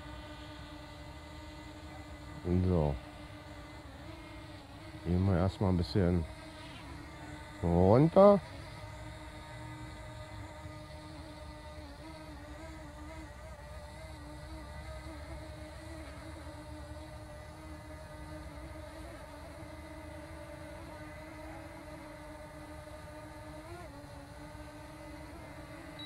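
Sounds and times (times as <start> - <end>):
drone propellers buzzing: 0.0 - 26.0.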